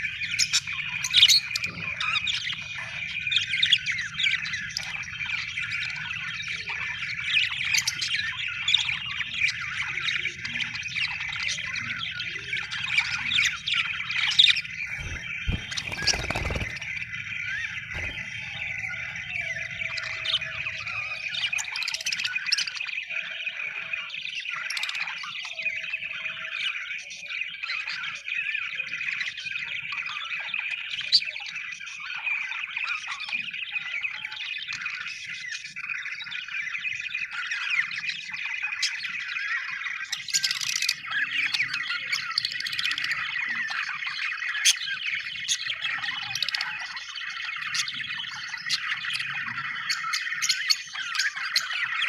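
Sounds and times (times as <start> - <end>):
budgerigars chirping: 0.0 - 52.0.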